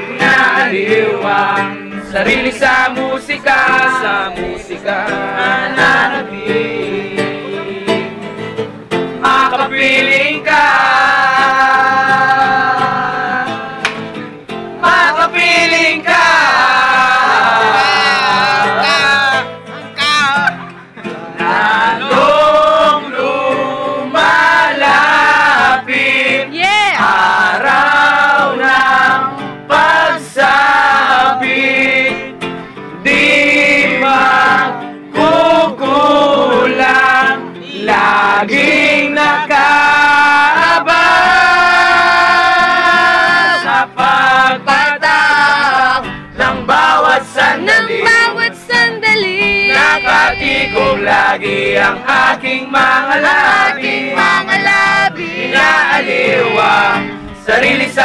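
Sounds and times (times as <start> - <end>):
strummed acoustic guitar: 0.0 - 58.0
young men singing together: 0.0 - 58.0.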